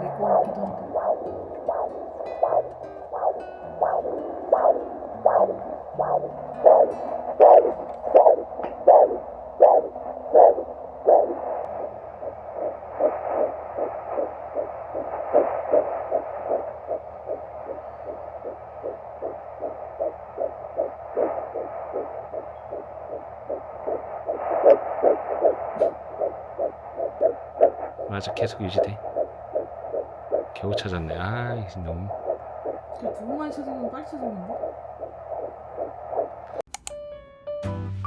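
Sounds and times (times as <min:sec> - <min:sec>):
doppler heartbeat whooshing pulses: 0:00.0 - 0:36.6
steady doppler hum: 0:00.0 - 0:36.6.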